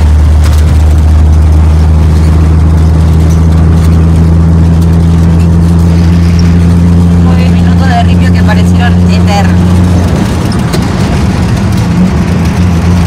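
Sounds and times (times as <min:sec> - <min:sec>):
vehicle engine and tyre drone: 0:00.0 - 0:13.0.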